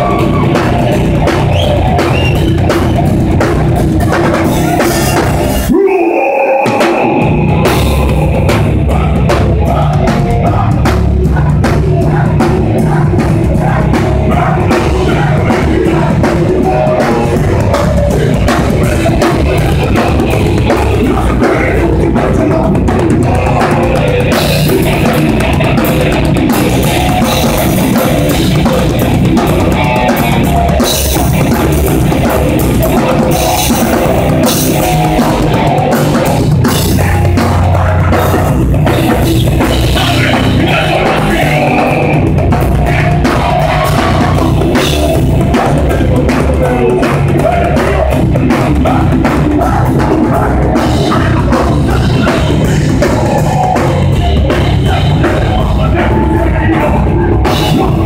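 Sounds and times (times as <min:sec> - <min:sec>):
drum kit: 0:00.0 - 0:58.0
heavy metal band playing live: 0:00.0 - 0:58.0.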